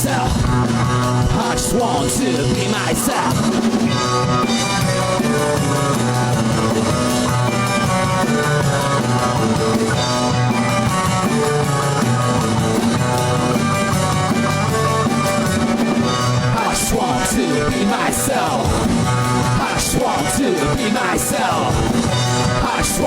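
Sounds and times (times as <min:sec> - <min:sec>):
drum kit: 0:00.0 - 0:23.0
electric guitar: 0:00.0 - 0:23.0.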